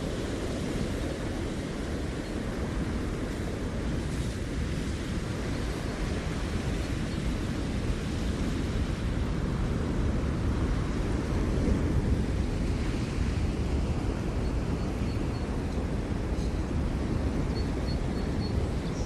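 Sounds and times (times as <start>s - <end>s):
ocean surf washing ashore: 0.0s - 19.0s.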